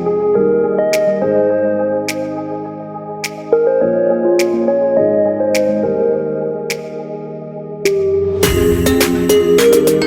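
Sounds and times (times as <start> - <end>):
soft synthesizer chords: 0.0 - 10.0.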